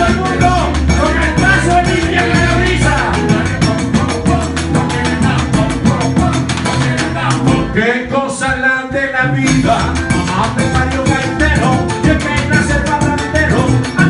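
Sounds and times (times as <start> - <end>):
bass: 0.0 - 14.0
hand-drum percussion: 0.0 - 14.0
man singing: 0.0 - 14.0.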